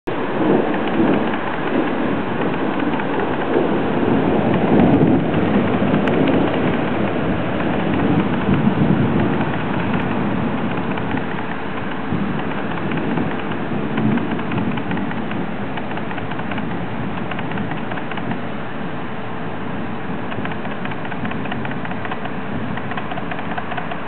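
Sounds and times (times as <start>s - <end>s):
heavy rain downpour: 0.1s - 24.0s.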